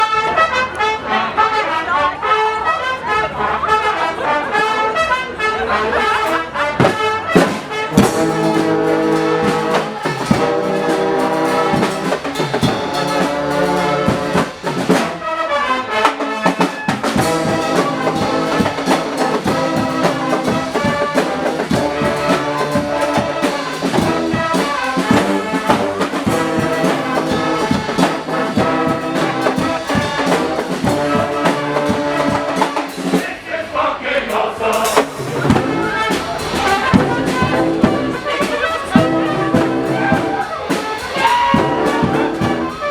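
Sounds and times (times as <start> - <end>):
brass band playing: 0.0 - 42.9
driving drum beat: 6.2 - 15.4, 16.0 - 33.5, 34.7 - 42.9.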